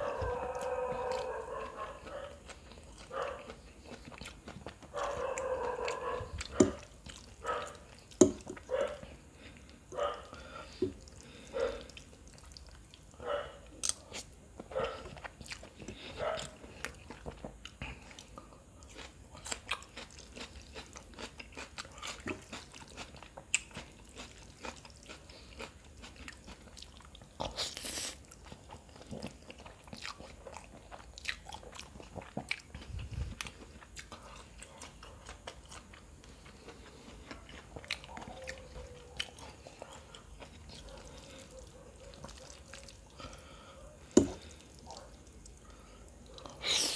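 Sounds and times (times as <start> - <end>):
chewing and slurping noodles: 0.0 - 46.9.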